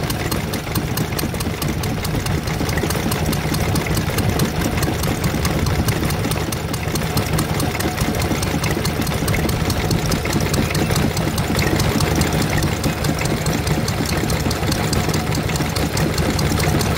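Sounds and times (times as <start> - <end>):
stationary engine running: 0.0 - 16.9.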